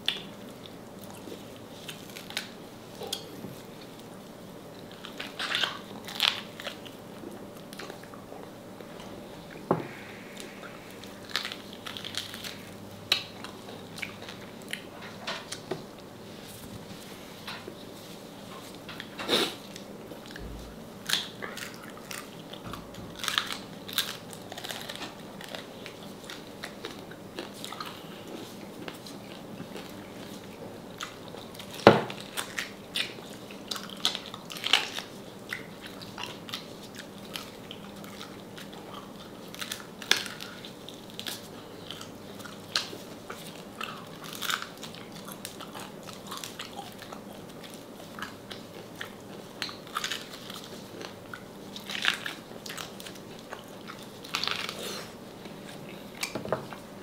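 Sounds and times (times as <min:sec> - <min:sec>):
crunchy chewing: 0:00.0 - 0:56.3.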